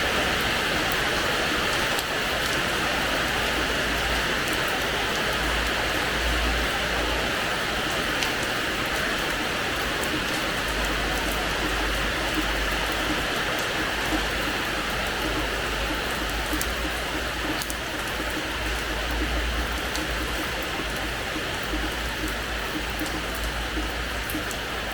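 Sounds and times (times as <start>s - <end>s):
rain on a hard floor: 0.0s - 24.9s.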